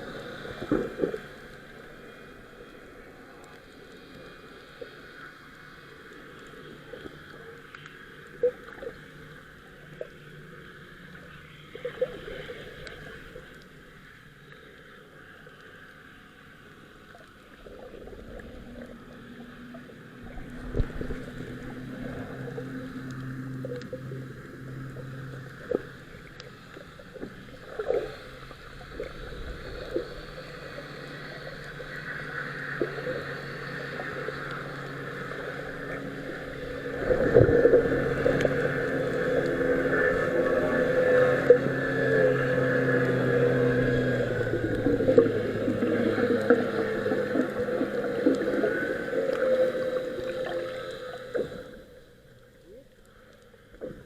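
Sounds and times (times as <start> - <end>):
low hum: 0.0 - 54.0
water rushing: 0.0 - 54.0.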